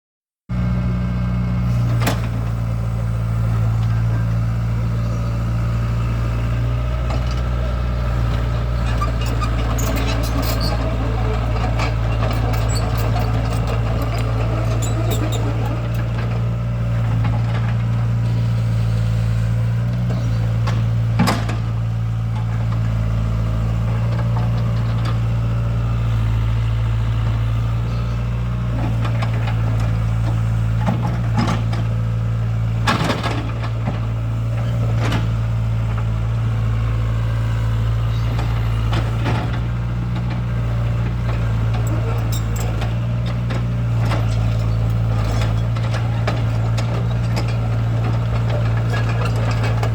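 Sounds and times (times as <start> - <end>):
excavator diesel engine humming: 0.5 - 49.9.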